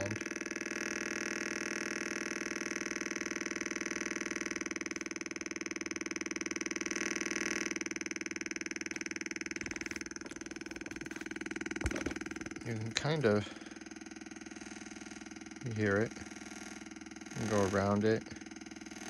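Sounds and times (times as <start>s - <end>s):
electronic oscillator buzz: 0.0s - 19.0s.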